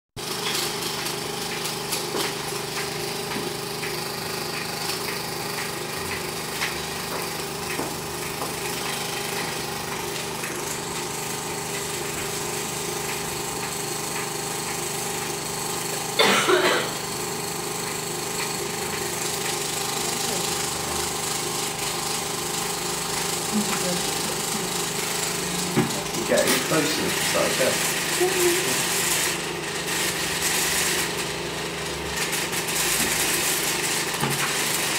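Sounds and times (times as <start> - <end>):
film projector clattering: 0.2 - 34.9.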